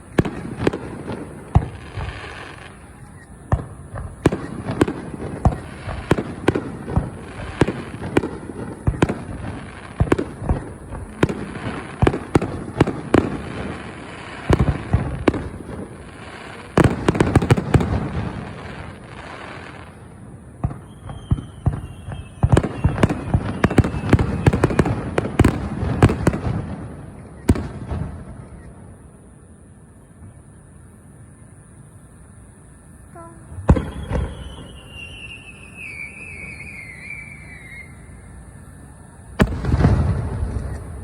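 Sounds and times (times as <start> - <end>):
fireworks exploding: 0.0 - 41.0.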